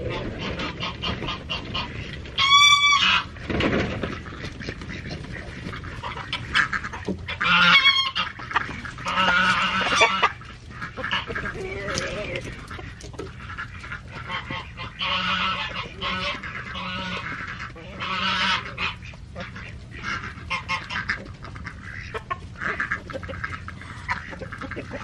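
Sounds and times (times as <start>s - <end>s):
chicken squawk: 0.0s - 25.0s
chickens calling: 0.0s - 25.0s.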